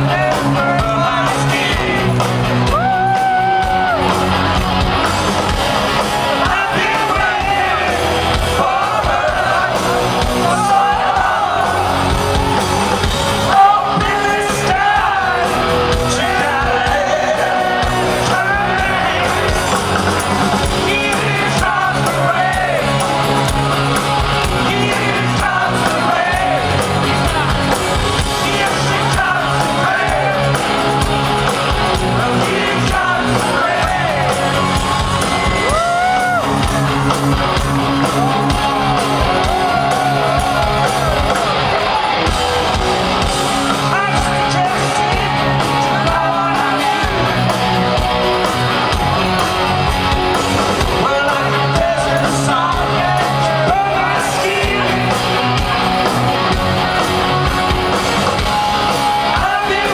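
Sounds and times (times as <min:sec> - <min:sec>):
live rock band playing: 0:00.0 - 0:59.9
male lead singer: 0:00.0 - 0:59.9.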